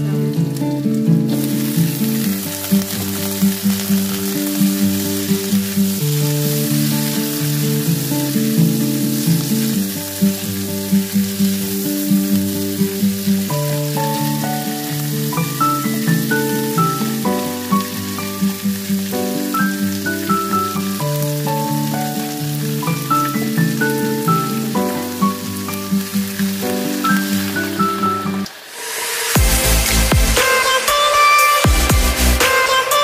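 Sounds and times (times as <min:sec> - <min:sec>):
background music: 0:00.0 - 0:33.0
vegetables sizzling in hot oil: 0:00.1 - 0:33.0.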